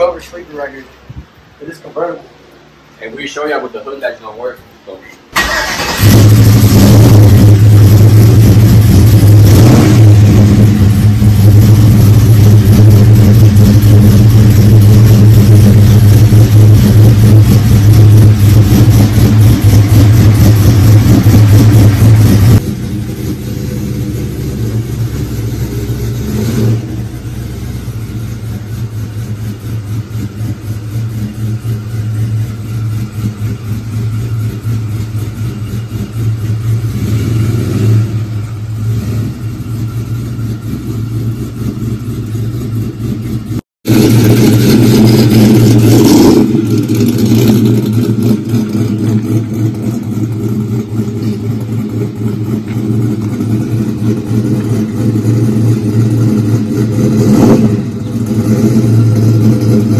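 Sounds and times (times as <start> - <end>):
pickup truck engine idling and revving: 5.3 - 59.9.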